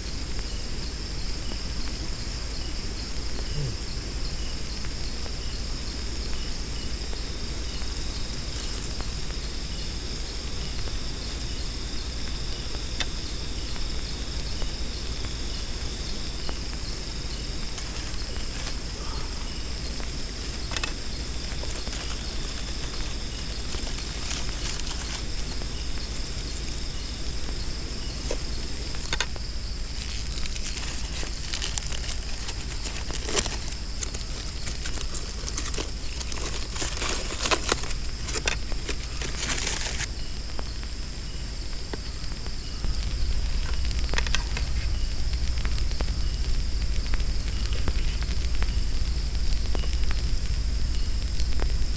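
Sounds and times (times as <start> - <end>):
crackles and small clicks: 0.0 - 51.9
high-pitched insect drone: 0.0 - 51.9.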